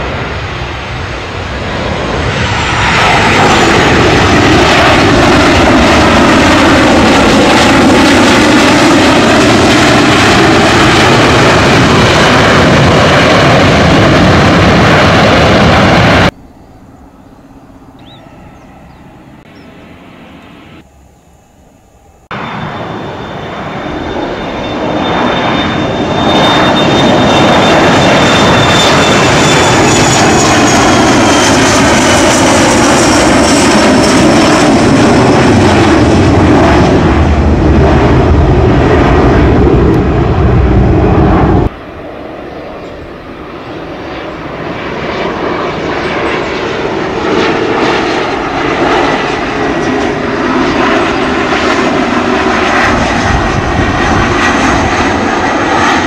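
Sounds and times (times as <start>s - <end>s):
jet engine roar with whine: 0.0s - 56.0s
jet on approach: 0.0s - 56.0s.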